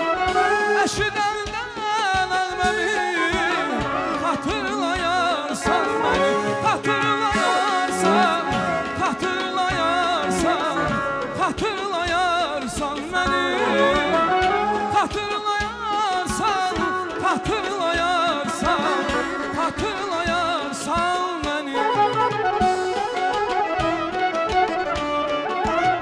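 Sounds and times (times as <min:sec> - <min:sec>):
man singing with vibrato: 0:00.0 - 0:22.8
instrumental backing: 0:00.0 - 0:26.0.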